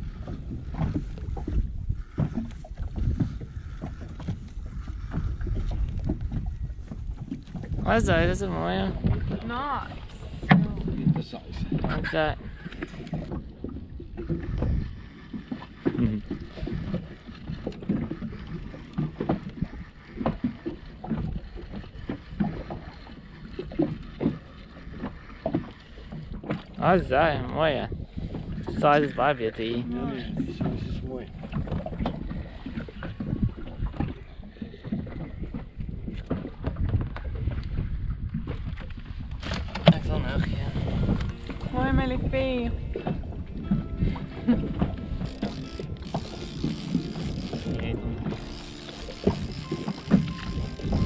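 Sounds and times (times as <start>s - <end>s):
water slapping against boat: 0.0s - 51.0s
wind buffeting microphone: 0.0s - 51.0s.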